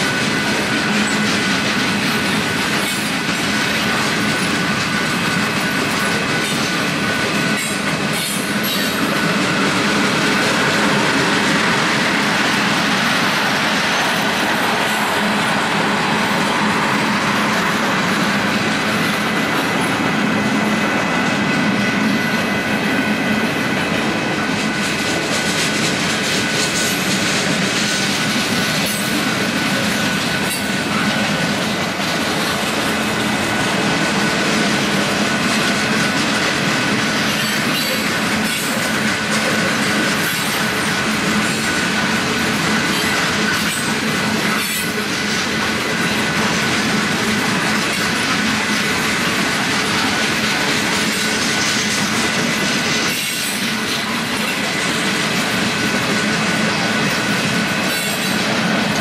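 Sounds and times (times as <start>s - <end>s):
train cars clattering over rails: 0.0s - 59.0s.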